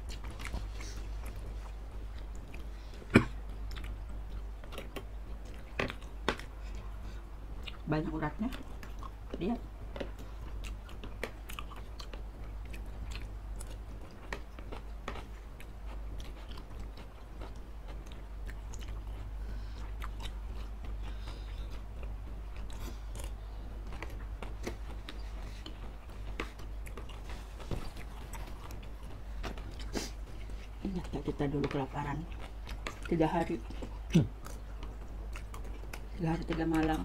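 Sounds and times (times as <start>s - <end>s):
chewing and biting food: 0.0s - 37.0s.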